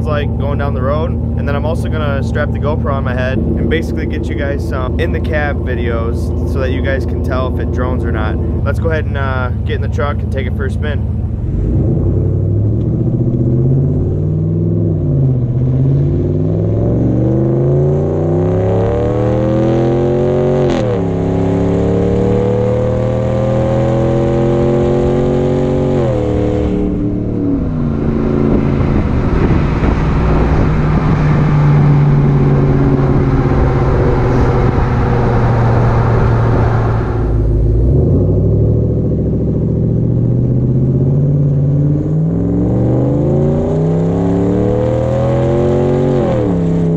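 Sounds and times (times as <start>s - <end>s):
truck engine accelerating: 0.0s - 46.9s
wind and road rush: 0.0s - 46.9s.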